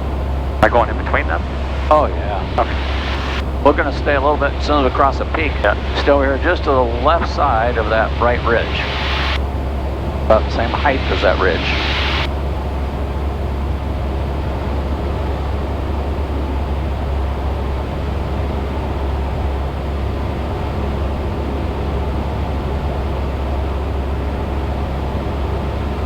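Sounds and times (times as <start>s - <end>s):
propeller plane engine droning: 0.0s - 26.0s.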